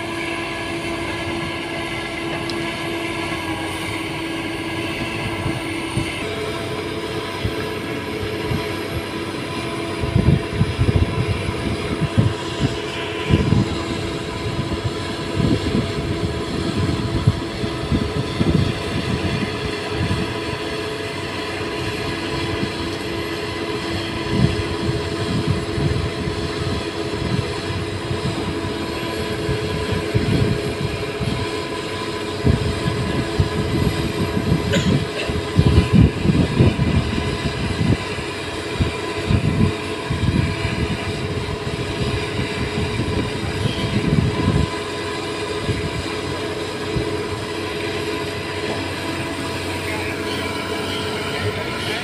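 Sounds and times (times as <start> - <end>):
excavator engine and hydraulics: 0.0 - 52.0
hydraulic whine: 0.0 - 52.0.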